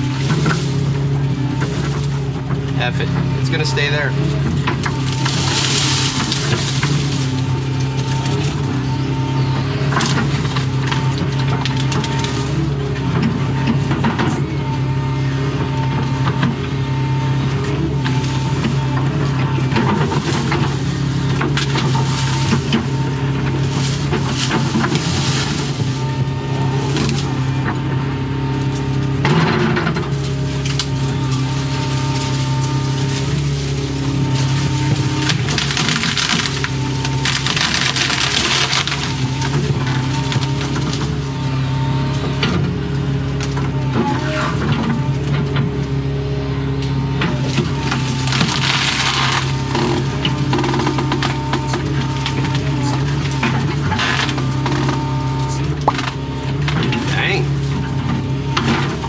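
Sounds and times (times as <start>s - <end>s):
excavator diesel engine running: 0.0s - 59.0s
wood and brush cracking: 0.0s - 59.0s.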